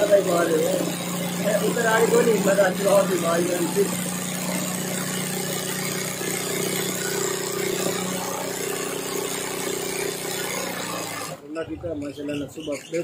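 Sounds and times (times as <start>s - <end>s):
sewing machine humming: 0.0s - 12.0s.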